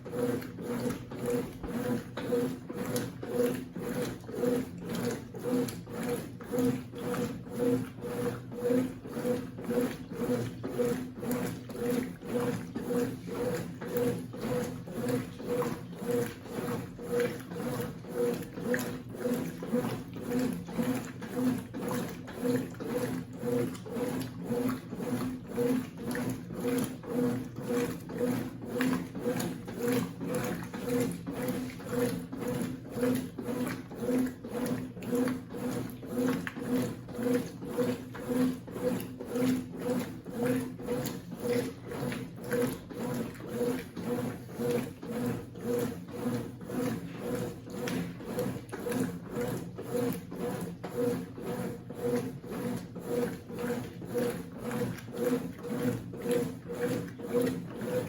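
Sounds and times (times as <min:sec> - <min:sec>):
washing machine agitating: 0:00.0 - 0:58.0.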